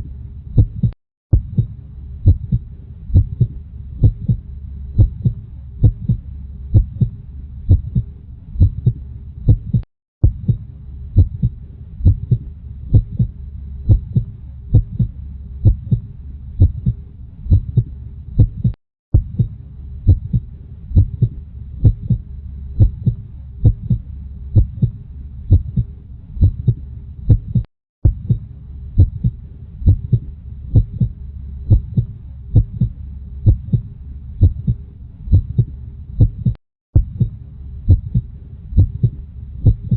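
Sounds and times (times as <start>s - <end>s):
heartbeat thumps: 0.0s - 39.9s
low rumble: 0.0s - 39.9s.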